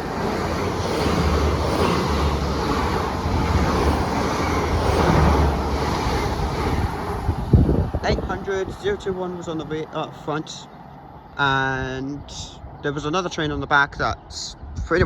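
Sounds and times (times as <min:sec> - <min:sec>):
train passing with rumbling wheels: 0:00.0 - 0:13.7.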